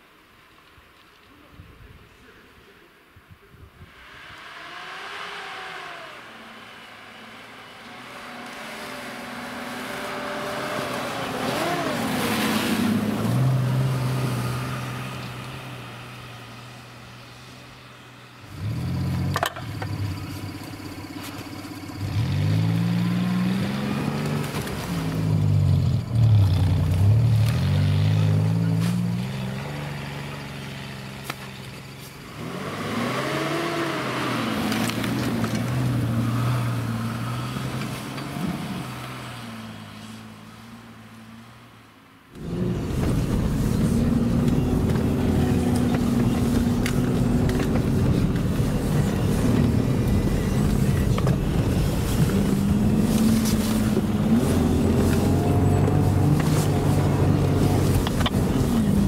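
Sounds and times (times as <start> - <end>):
suv engines revving: 3.9 - 59.0.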